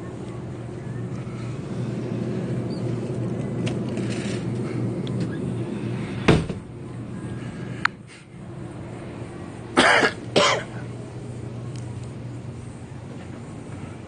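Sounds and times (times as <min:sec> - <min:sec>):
cooler electrical hum: 0:00.0 - 0:14.0.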